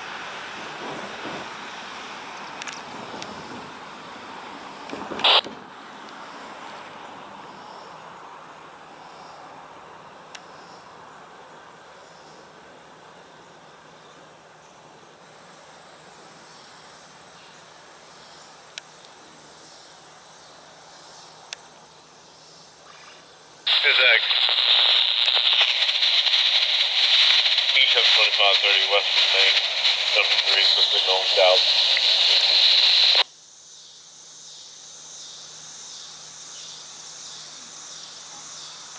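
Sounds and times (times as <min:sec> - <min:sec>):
faint outdoor hiss: 0:00.0 - 0:38.9
insects chirring: 0:00.0 - 0:38.9.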